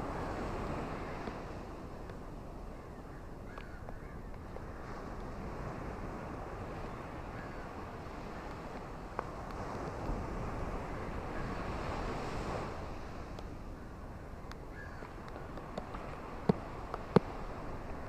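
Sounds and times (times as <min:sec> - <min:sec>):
ocean surf: 0:00.0 - 0:02.9, 0:04.4 - 0:18.0.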